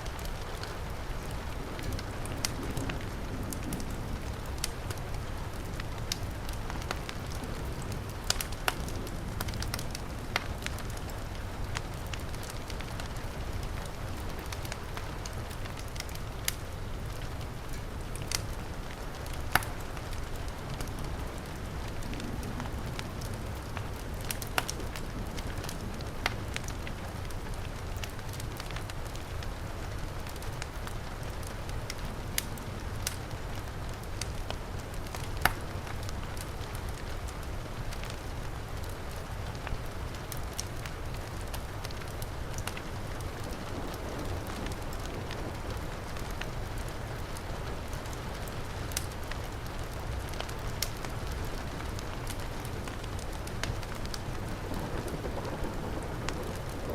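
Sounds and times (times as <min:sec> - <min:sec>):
heavy rain: 0:00.0 - 0:56.9
wood fire crackling and popping: 0:00.0 - 0:56.9.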